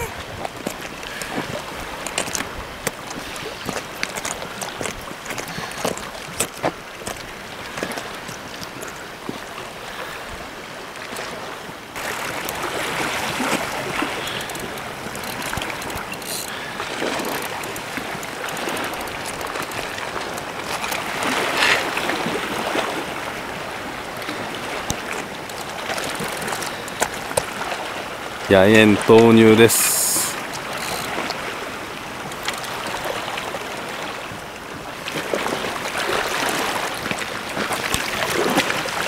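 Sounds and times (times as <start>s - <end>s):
sea water washing on shore: 0.0s - 39.0s.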